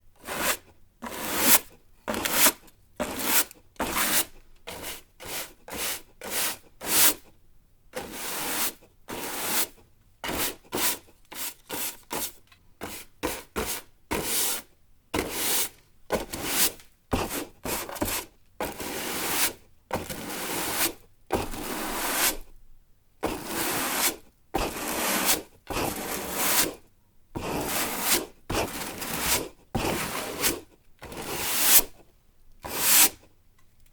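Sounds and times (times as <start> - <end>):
broom sweeping: 0.2 - 7.2, 8.0 - 9.7, 10.3 - 14.6, 15.2 - 22.4, 23.3 - 26.8, 27.4 - 32.0, 32.6 - 33.2.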